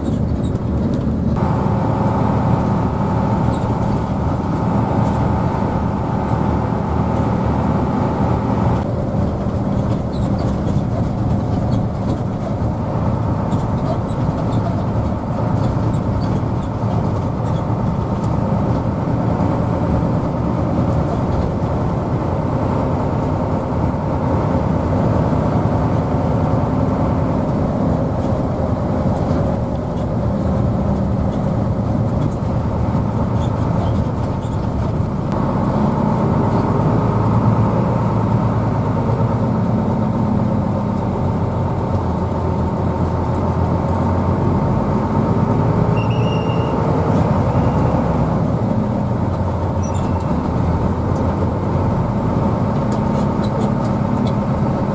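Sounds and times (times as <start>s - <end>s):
bus engine running: 0.0s - 54.9s
road noise: 0.0s - 54.9s.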